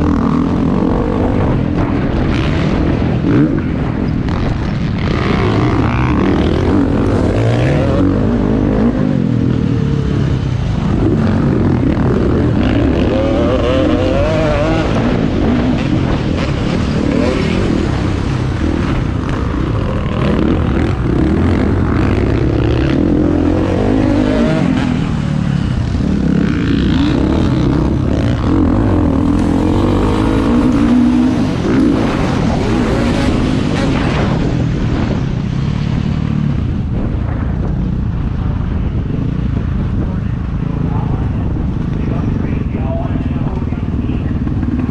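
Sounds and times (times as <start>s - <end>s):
motorbike engines revving: 0.0s - 44.9s.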